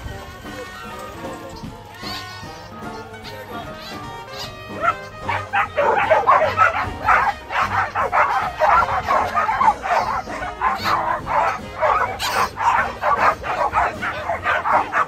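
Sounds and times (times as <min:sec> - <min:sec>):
dogs barking: 0:00.0 - 0:15.0
music: 0:00.0 - 0:15.0.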